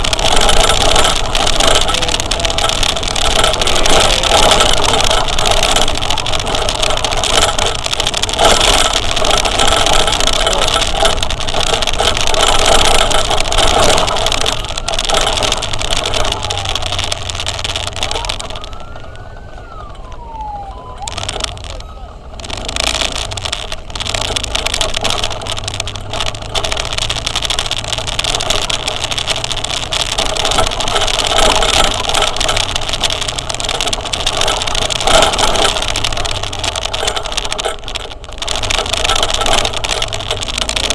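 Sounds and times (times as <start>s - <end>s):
vehicle wind and road noise: 0.0s - 40.9s.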